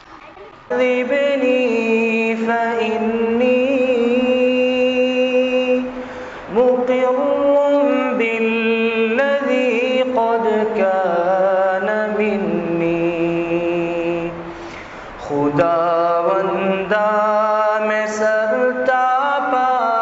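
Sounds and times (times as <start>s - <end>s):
person chanting unaccompanied: 0.1s - 14.4s, 15.2s - 20.0s.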